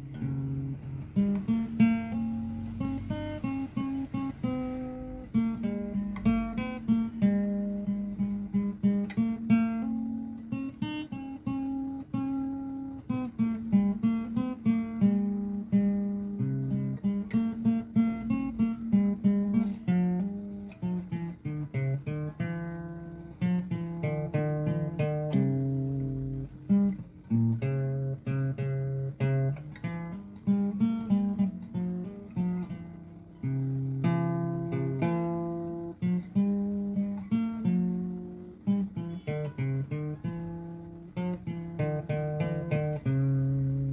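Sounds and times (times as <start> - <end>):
acoustic guitar melody: 0.0 - 43.9.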